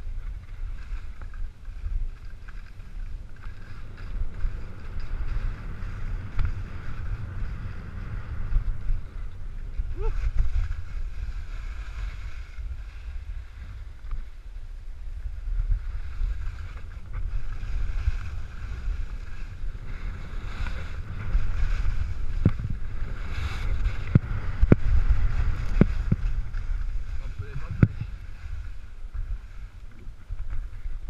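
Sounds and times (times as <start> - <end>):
skis scraping over snow: 0.0 - 31.0
wind buffeting microphone: 0.0 - 31.0.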